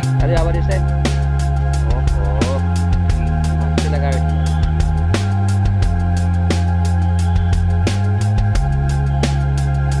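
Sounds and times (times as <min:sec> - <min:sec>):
background music with bass and drums: 0:00.0 - 0:10.0.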